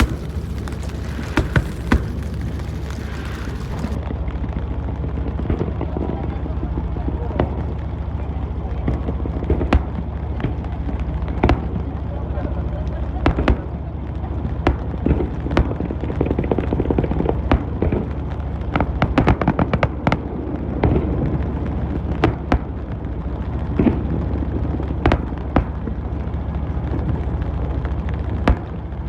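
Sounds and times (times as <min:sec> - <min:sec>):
fireworks bangs and crackles: 0:00.0 - 0:12.1, 0:13.0 - 0:29.0.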